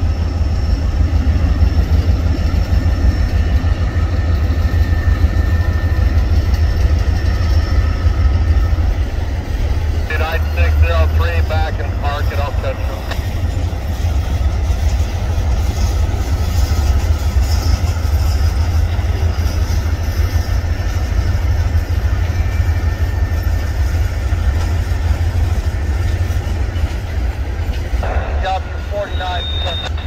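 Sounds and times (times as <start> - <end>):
diesel locomotive engines rumbling: 0.0 - 30.0.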